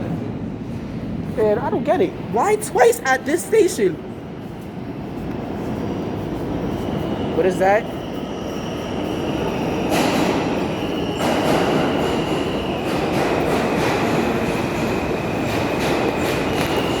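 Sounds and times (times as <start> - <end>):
subway train rumbling on rails: 0.0 - 17.0.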